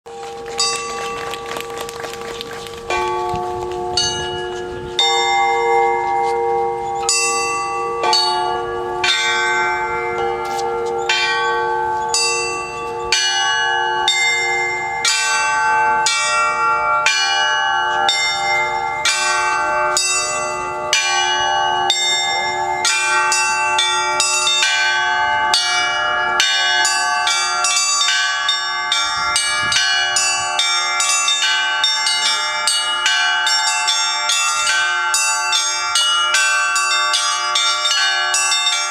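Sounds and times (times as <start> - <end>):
church bells pealing: 0.1 - 38.9
deep bells ringing: 0.1 - 38.9.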